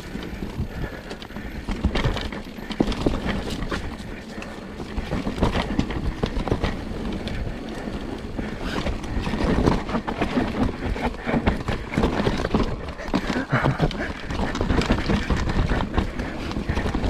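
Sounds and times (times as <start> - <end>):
bike rattling and knocking over bumps: 0.0 - 17.0
bike tyres on dirt: 0.0 - 17.0.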